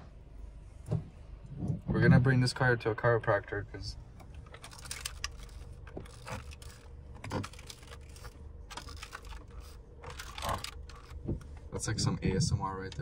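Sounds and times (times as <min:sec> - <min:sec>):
low cabin hum: 0:00.0 - 0:13.0.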